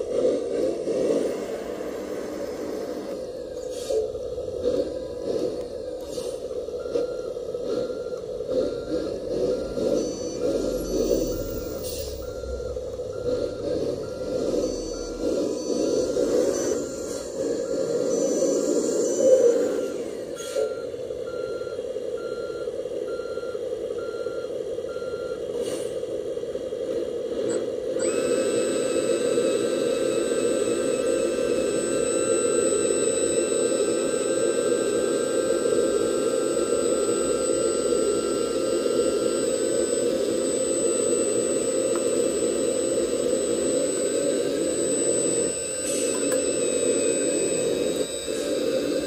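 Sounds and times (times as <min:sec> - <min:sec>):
hydraulic pump whine: 0:00.0 - 0:23.2, 0:26.9 - 0:49.0
engine drone: 0:00.0 - 0:49.0
reversing beeper: 0:01.2 - 0:25.5, 0:28.0 - 0:49.0.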